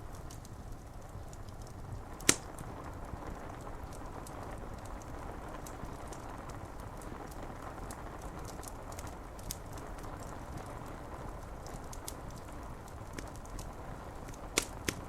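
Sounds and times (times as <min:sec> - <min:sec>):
rain against window glass: 0:00.0 - 0:15.0
wood fire crackling: 0:00.0 - 0:15.0.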